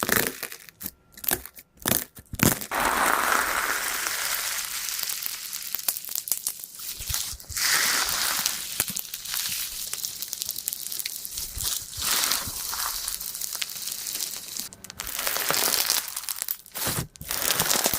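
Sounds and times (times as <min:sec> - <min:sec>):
slime squishing and crackling: 0:00.0 - 0:17.9.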